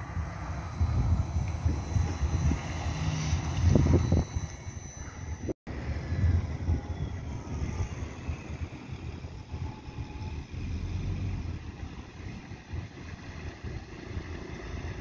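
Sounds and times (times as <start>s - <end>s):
distant bus rumbling: 0.0s - 15.0s
faint gliding whines: 0.0s - 15.0s.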